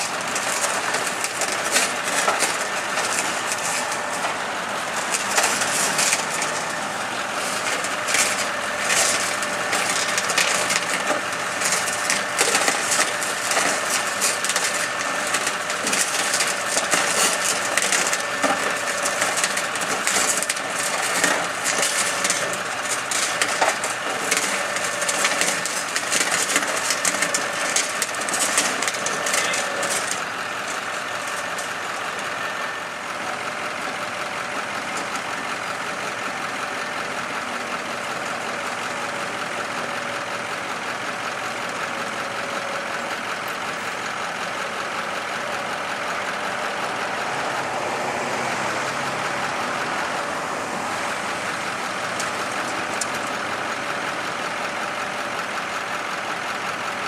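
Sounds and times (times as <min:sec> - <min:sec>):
crunching crackling clatter: 0:00.0 - 0:40.5, 0:45.2 - 0:56.3
truck engine idling: 0:00.0 - 0:57.0.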